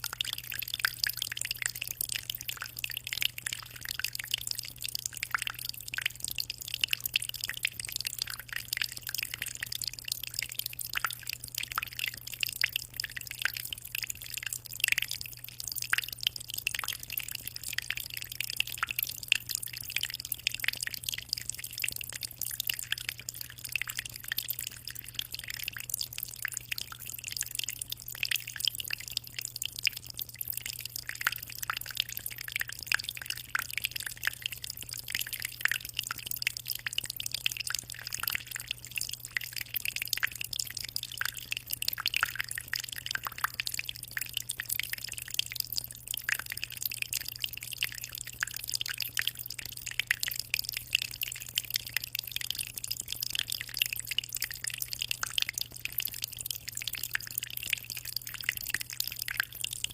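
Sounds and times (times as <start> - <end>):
aquarium water splashing and trickling: 0.0 - 59.9.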